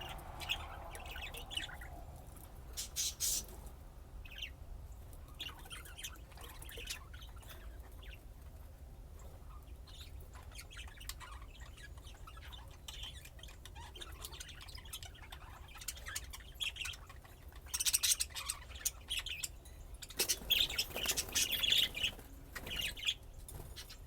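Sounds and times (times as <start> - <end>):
budgerigars chirping and chattering: 0.0 - 2.0, 2.8 - 3.6, 4.2 - 8.3, 9.2 - 24.0.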